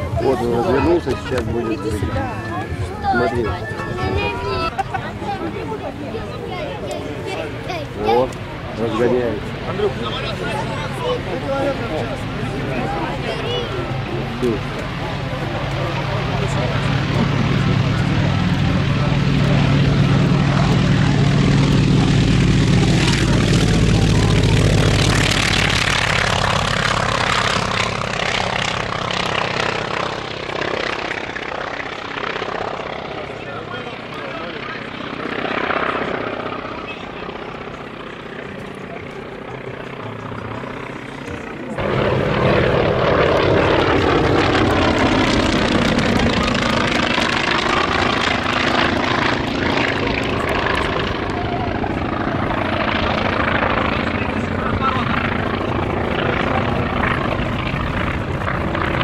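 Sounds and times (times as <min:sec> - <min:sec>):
propeller plane engine: 0:00.0 - 0:59.0.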